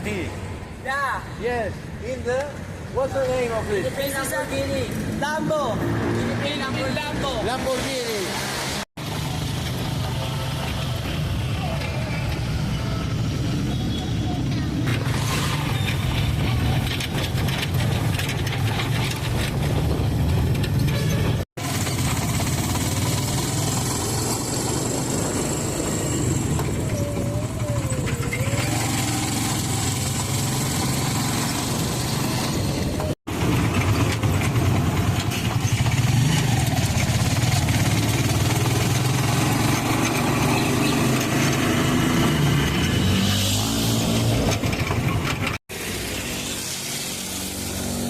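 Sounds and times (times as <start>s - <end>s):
traffic engines rumbling: 0.0s - 48.0s.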